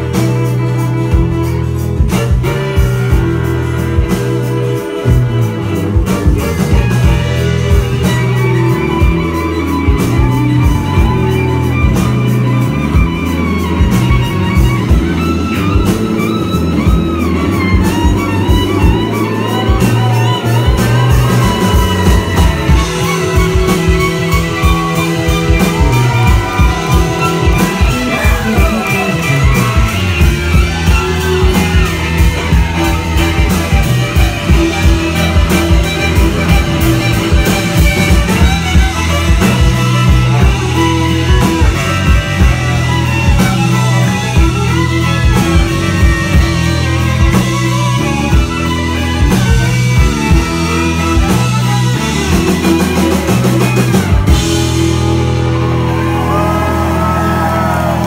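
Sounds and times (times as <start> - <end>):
country band playing: 0.0 - 58.0
lead instrument bending notes: 0.0 - 58.0.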